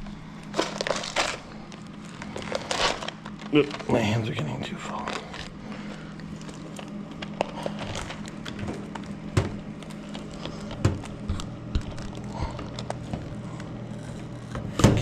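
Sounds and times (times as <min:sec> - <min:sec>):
snack packets and bottles handled: 0:00.0 - 0:14.4
steady low hum: 0:00.0 - 0:15.0.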